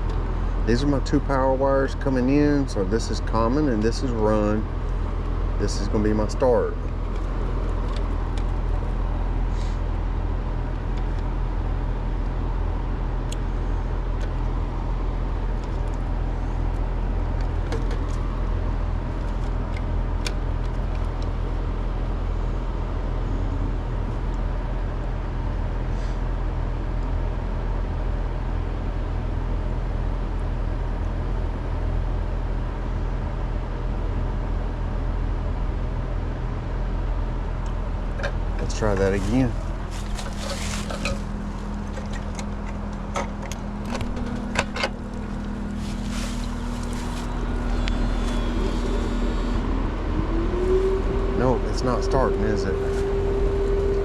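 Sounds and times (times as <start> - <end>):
air conditioner low hum: 0.0 - 54.0.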